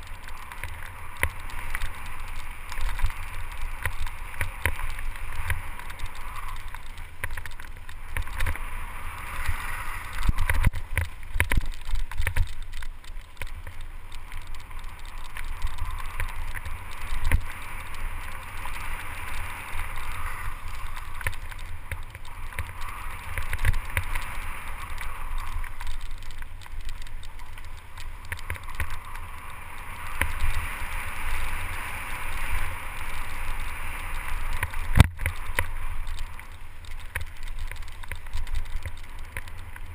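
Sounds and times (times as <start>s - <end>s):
bike rattling over bumps: 0.0s - 39.9s
wind rumble on microphone: 0.0s - 39.9s.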